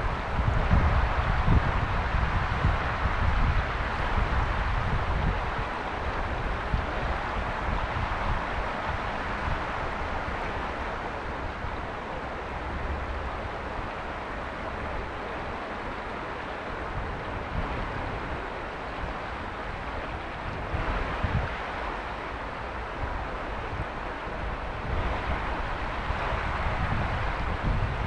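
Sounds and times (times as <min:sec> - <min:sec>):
river rushing over stones: 0:00.0 - 0:28.0.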